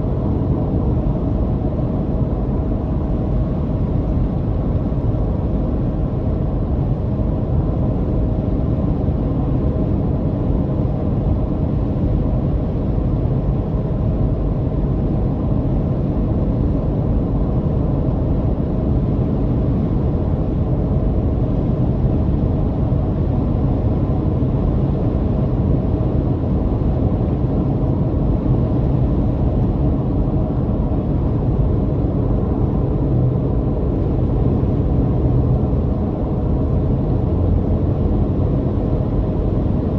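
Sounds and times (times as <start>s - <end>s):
road noise rumble: 0.0s - 39.9s.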